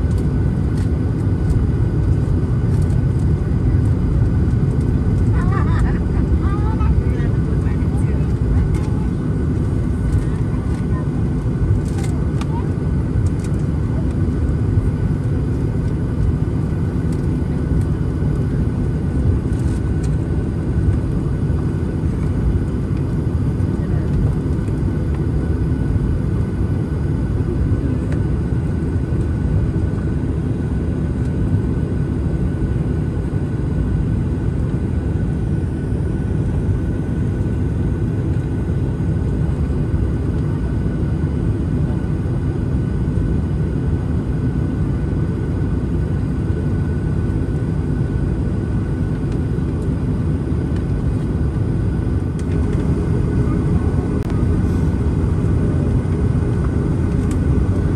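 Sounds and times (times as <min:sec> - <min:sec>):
jet engines running: 0:00.0 - 0:57.9.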